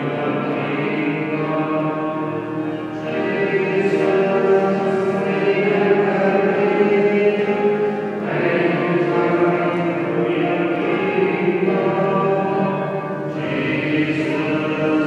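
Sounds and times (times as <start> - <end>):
group singing a meditative chant: 0.0 - 15.0.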